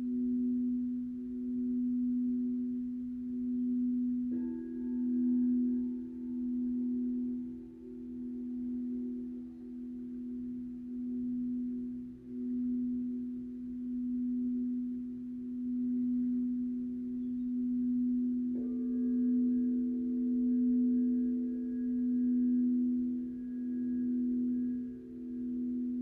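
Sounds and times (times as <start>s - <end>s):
low drone tone: 0.0s - 26.0s.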